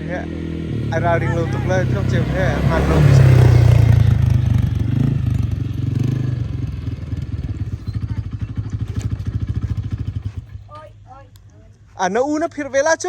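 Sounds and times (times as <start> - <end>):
vehicle engine running: 0.0 - 12.9.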